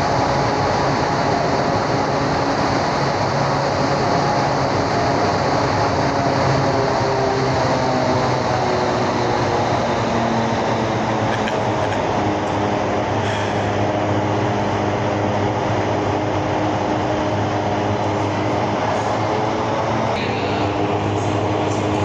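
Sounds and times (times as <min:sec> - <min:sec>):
steady hum: 0:00.0 - 0:22.0
wind tunnel air rushing: 0:00.0 - 0:22.0.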